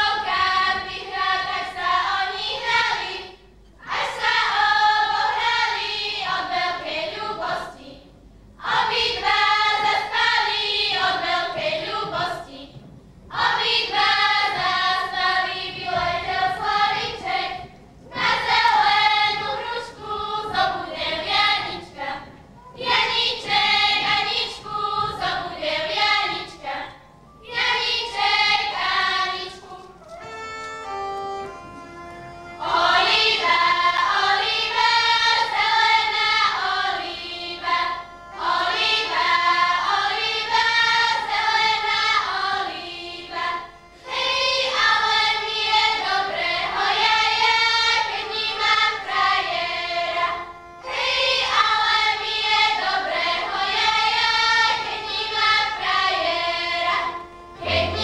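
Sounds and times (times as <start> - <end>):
girls choir singing unaccompanied: 0.0 - 58.0.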